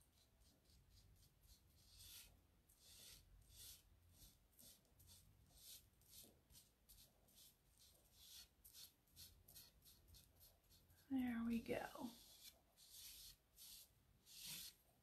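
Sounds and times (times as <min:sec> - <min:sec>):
sponge brush scrubbing: 0:00.0 - 0:11.1, 0:12.0 - 0:14.9.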